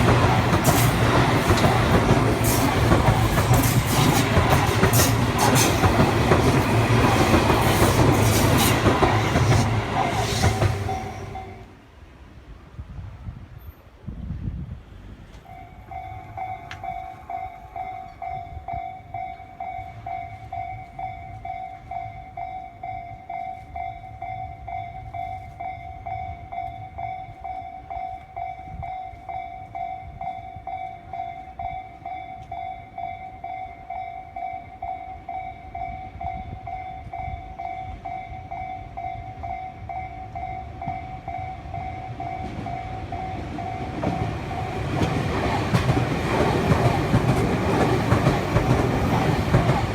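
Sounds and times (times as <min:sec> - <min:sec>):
crossing warning bell dinging: 0:00.0 - 0:11.8, 0:15.4 - 0:49.9
rail traffic rumble: 0:00.0 - 0:49.9
train noise: 0:00.0 - 0:49.9.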